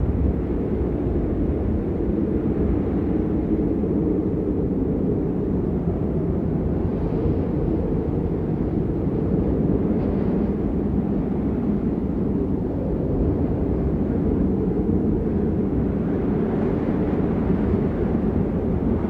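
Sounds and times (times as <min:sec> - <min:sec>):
storm wind on microphone: 0:00.0 - 0:19.0.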